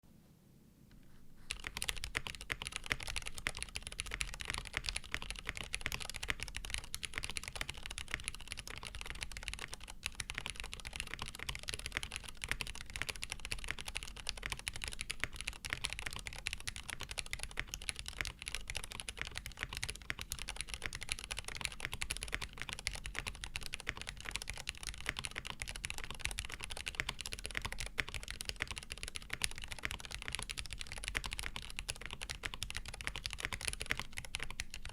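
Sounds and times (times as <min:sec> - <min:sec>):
fast mechanical keyboard typing: 0:01.5 - 0:34.9.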